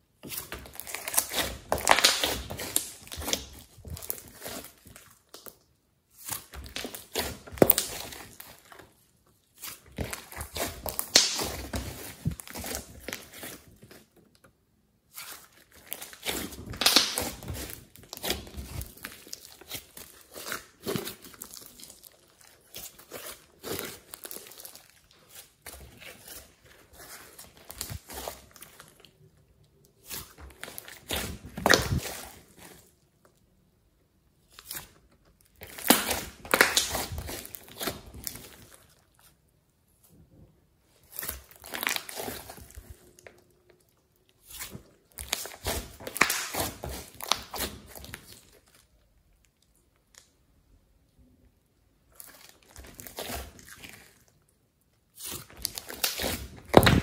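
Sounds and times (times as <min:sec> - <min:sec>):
sticky slime crackling and popping: 0:00.2 - 0:14.5, 0:15.1 - 0:32.9, 0:34.6 - 0:39.2, 0:41.0 - 0:50.4, 0:52.0 - 0:57.0.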